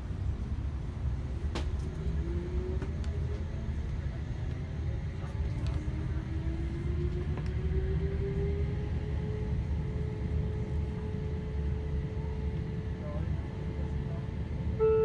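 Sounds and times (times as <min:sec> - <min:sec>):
train wheels rumbling on track: 0:00.0 - 0:13.1.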